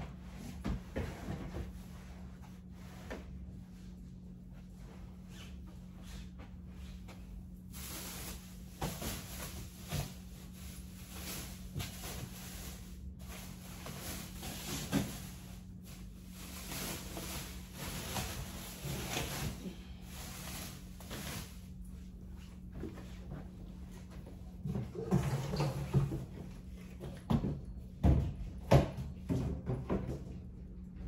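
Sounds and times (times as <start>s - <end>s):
low electrical hum: 0.0s - 31.0s
items rustling and clattering: 0.1s - 3.6s, 5.4s - 31.0s.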